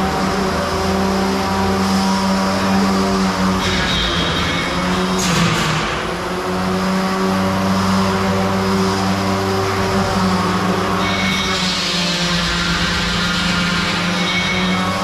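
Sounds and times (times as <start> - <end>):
harsh grinding burst: 0.0 - 15.0.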